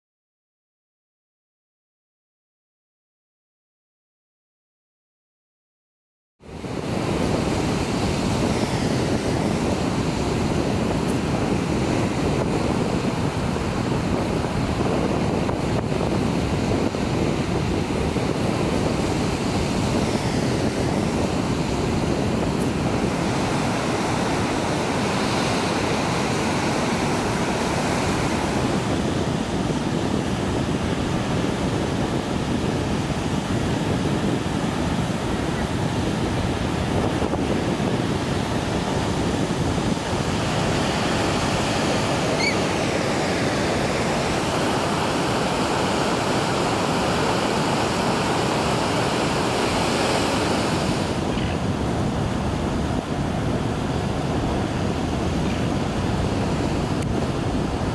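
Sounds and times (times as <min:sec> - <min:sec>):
surf breaking on rocky shore: 0:06.6 - 0:57.9.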